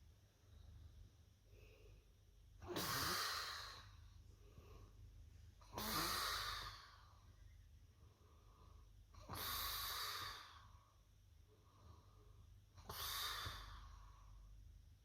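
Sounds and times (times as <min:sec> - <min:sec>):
soft breathing: 0:00.3 - 0:14.7.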